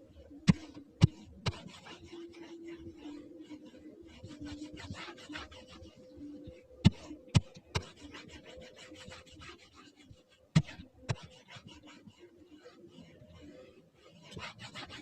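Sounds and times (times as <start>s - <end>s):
rubbing on touchscreen: 0.0s - 15.0s.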